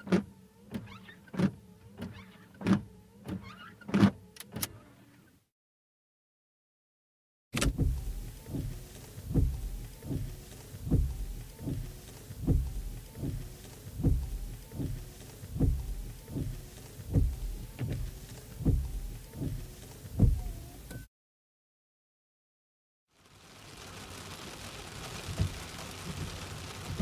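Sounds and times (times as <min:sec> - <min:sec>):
windscreen wipers sweeping: 0:00.0 - 0:05.2, 0:07.6 - 0:21.0, 0:23.2 - 0:27.0.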